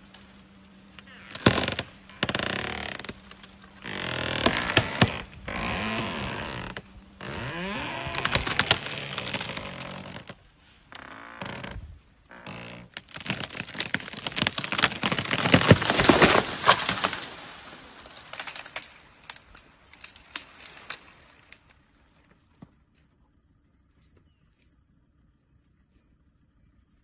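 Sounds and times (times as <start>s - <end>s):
tree cracking and splintering: 0.0s - 21.8s.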